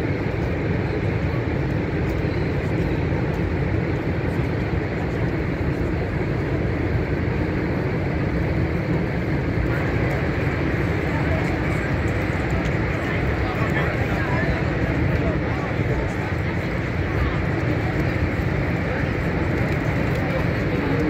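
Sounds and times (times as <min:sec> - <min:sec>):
boat running rumble: 0:00.0 - 0:21.0.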